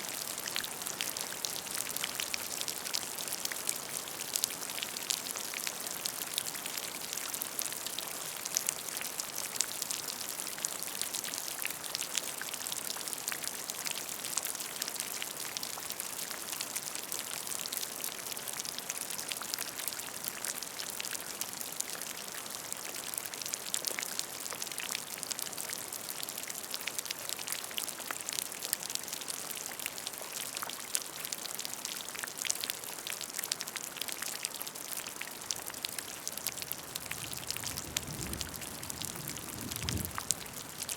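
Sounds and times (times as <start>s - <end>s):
rain falling into a puddle: 0.0s - 40.9s.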